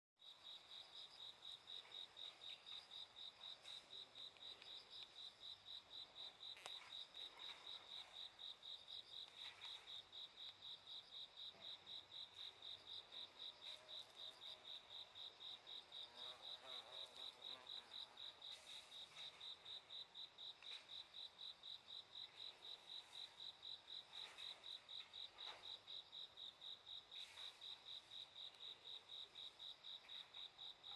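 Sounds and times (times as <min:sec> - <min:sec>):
cricket chirping: 0:00.2 - 0:30.9
faint insects: 0:00.2 - 0:30.9.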